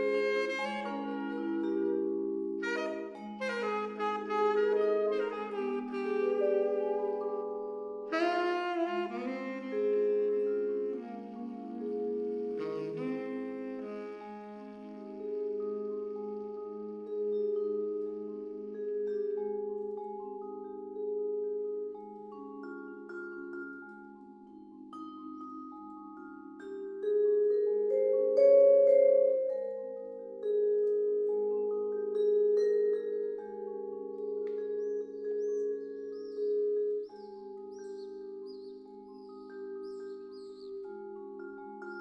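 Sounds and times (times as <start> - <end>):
vibraphone playing: 0.0 - 42.0.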